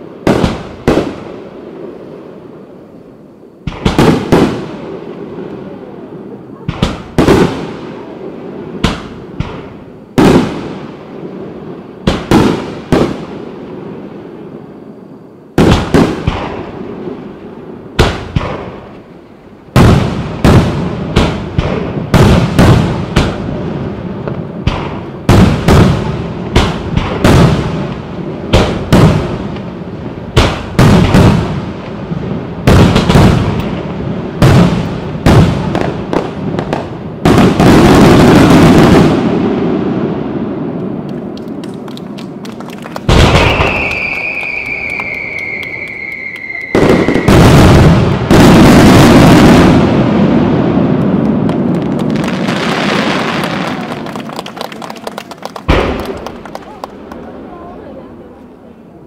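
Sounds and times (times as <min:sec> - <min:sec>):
fireworks booming: 0:00.0 - 0:59.0
rapid fireworks barrage: 0:00.0 - 0:59.0.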